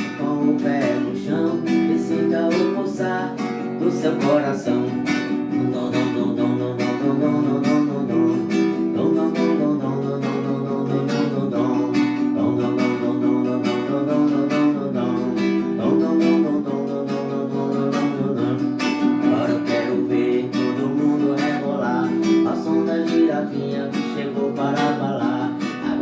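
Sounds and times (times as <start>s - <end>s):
strummed guitar chords: 0.0s - 26.0s.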